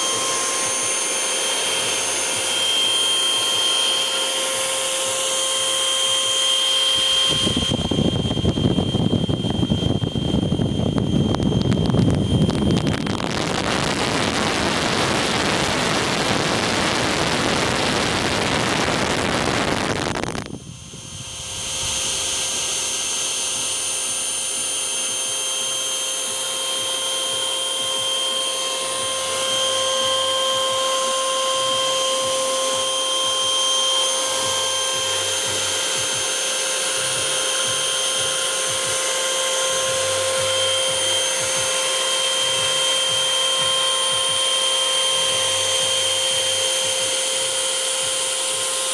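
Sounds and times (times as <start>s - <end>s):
model jet ducted fan whine: 0.0s - 48.9s.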